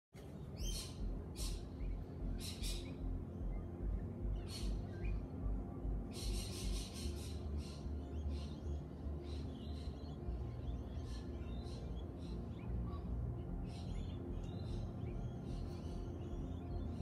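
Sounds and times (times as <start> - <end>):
birds calling: 0.2 - 17.0
low pulsing rumble: 0.3 - 17.0.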